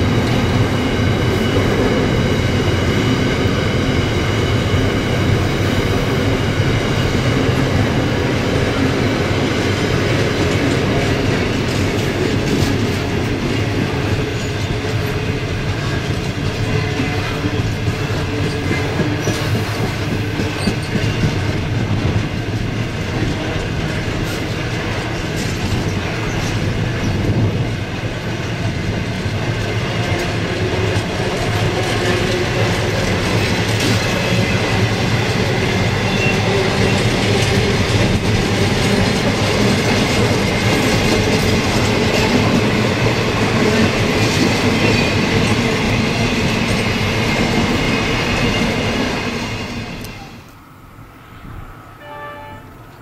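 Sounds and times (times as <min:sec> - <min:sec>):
train wagons rumbling: 0:00.0 - 0:50.6.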